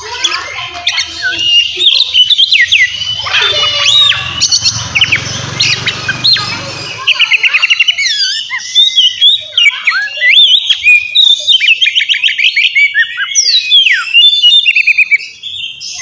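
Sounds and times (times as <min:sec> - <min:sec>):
magpie-robin singing: 0:00.0 - 0:16.0.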